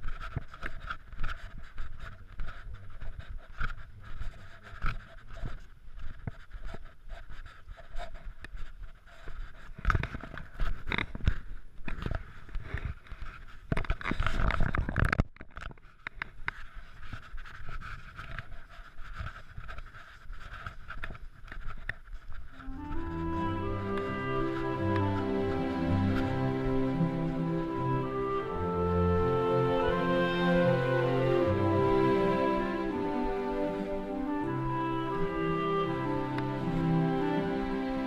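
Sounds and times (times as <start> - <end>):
rustling: 0.0 - 38.0.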